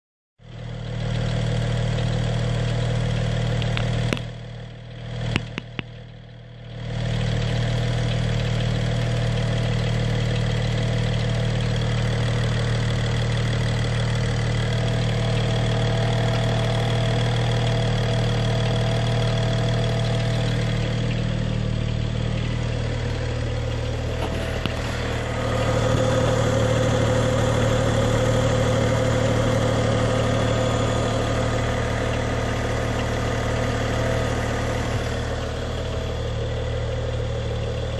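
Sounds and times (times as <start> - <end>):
car engine idling: 0.4 - 37.9
engine clicking noise: 0.7 - 37.9.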